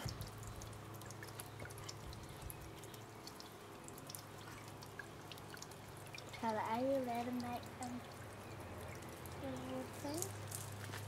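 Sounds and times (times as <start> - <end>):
fountain water splashing on pebbles: 0.0 - 11.0.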